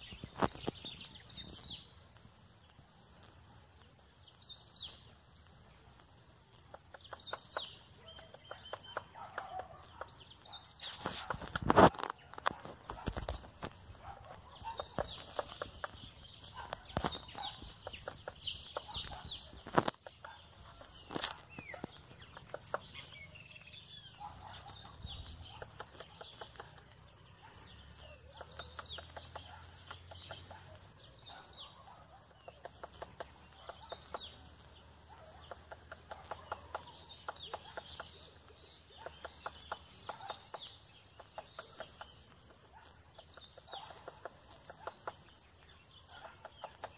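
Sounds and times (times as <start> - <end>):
high bird chirps: 4.3 - 46.9
woodpecker hammering: 6.5 - 46.9.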